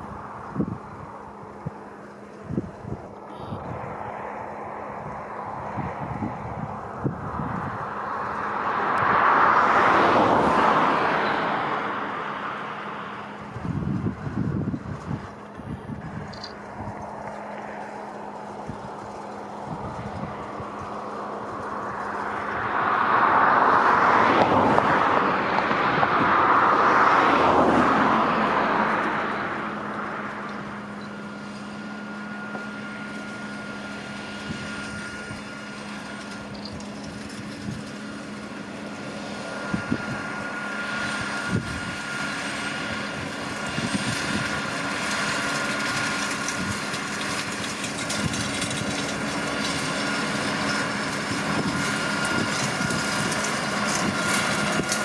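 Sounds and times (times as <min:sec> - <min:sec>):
thin steady whine: 0:00.0 - 0:24.0, 0:28.8 - 0:55.0
rotary rake rushing noise: 0:00.0 - 0:55.0
tractor engine: 0:00.0 - 0:55.0.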